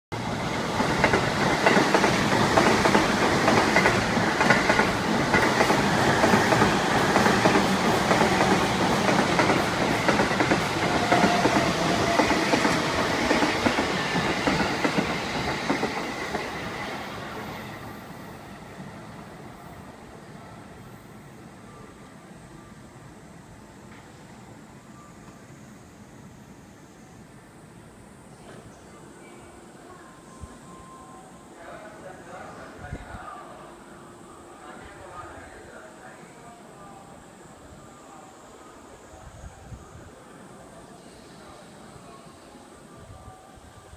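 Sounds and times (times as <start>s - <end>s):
electric train running past: 0.1s - 43.9s.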